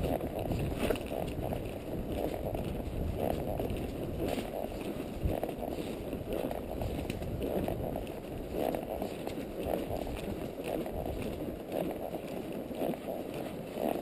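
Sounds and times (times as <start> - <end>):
horse footfalls on dirt: 0.0 - 14.0.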